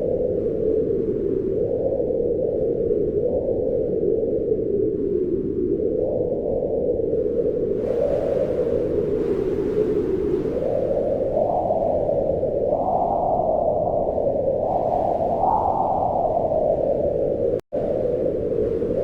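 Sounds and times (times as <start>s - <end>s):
wind blowing in gusts: 0.0s - 19.0s.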